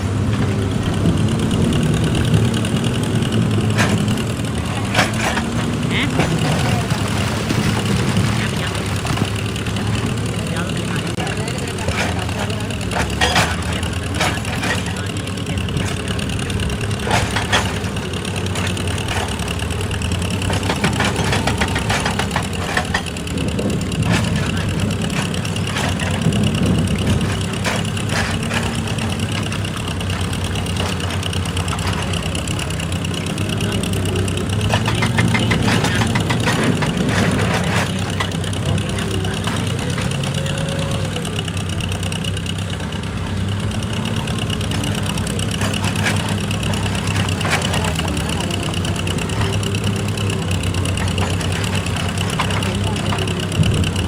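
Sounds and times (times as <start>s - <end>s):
diesel engine running: 0.0s - 54.0s
knocks and clatter: 0.0s - 54.0s.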